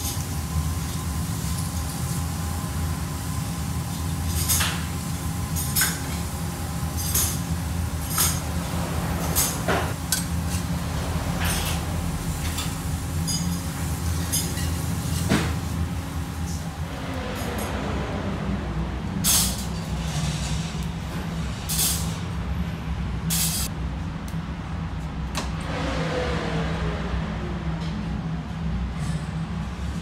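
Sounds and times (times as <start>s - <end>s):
low kitchen hum: 0.0s - 25.5s.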